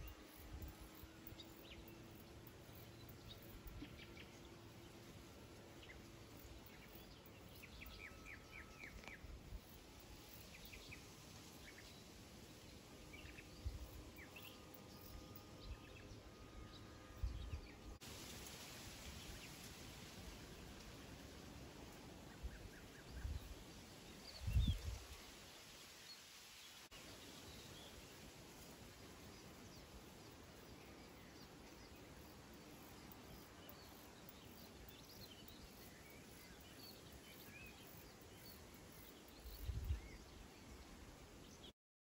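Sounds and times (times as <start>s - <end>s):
faint birdsong: 0.0s - 18.0s, 19.1s - 41.7s
outdoor background hiss: 0.0s - 41.7s.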